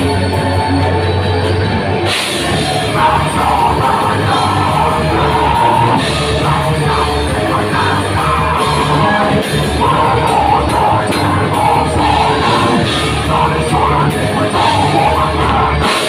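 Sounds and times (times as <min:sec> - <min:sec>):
bass: 0:00.0 - 0:16.0
drum kit: 0:00.0 - 0:16.0
electric guitars: 0:00.0 - 0:16.0
keyboard: 0:00.0 - 0:16.0
person singing: 0:02.2 - 0:16.0.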